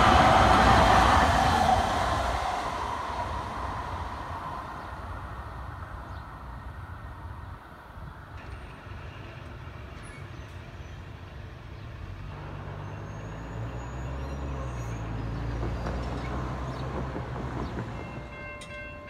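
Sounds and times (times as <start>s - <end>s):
large vehicle engine drone: 0.0s - 10.3s, 11.1s - 18.4s
traffic noise: 0.0s - 19.0s.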